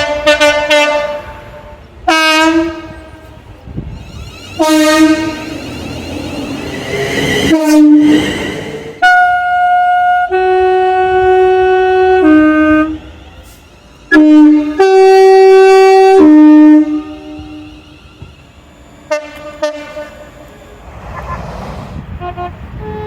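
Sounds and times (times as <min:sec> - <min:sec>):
two-tone train air horn: 0:00.0 - 0:20.7, 0:22.0 - 0:23.0
train passing rush: 0:00.0 - 0:23.0.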